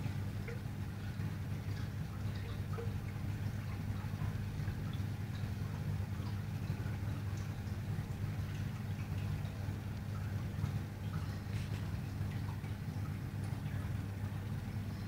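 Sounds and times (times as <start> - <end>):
aquarium equipment humming: 0.0 - 15.0
water dripping and trickling: 0.0 - 15.0.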